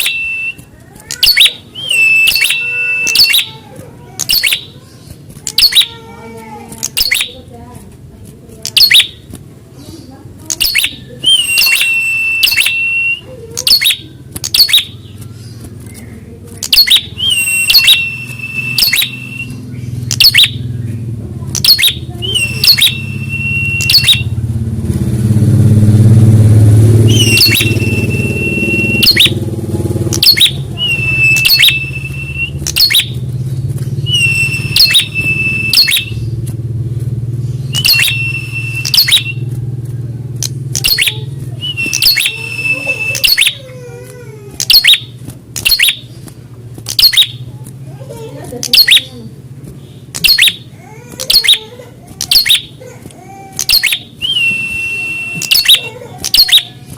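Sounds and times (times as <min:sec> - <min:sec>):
bird calling: 0:00.0 - 0:07.6, 0:08.6 - 0:24.4, 0:27.0 - 0:29.4, 0:30.1 - 0:36.4, 0:37.5 - 0:39.5, 0:40.4 - 0:47.6, 0:48.2 - 0:56.9
passing motor vehicle rumble: 0:00.0 - 0:56.9.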